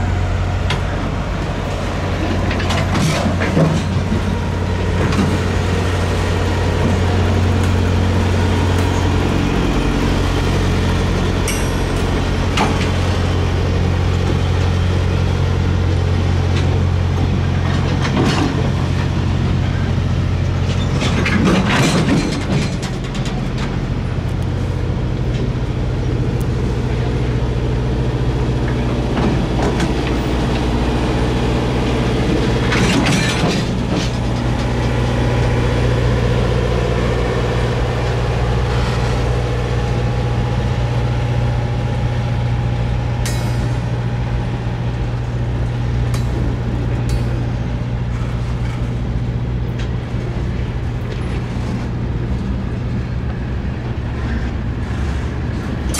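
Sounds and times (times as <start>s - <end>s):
freight train rolling past: 0.0s - 55.9s
low diesel drone: 0.0s - 55.9s
train cars clanking and squealing: 0.0s - 55.9s.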